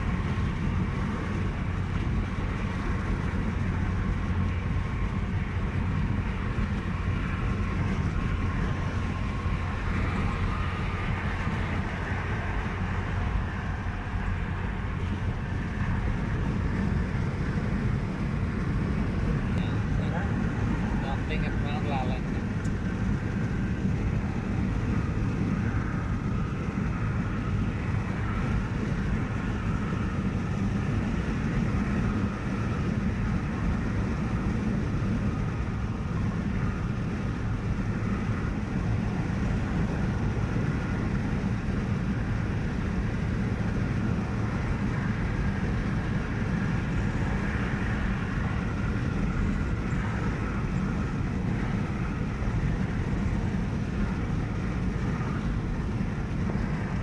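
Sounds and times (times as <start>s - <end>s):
car tyre and engine noise: 0.0s - 57.0s.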